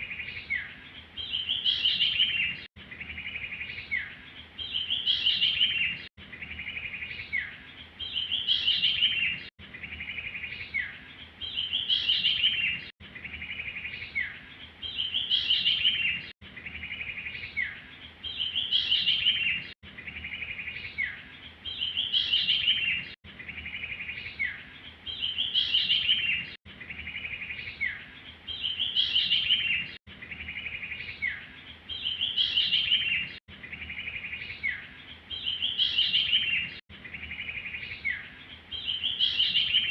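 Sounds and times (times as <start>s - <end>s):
recorded songbird call: 0.0s - 39.9s.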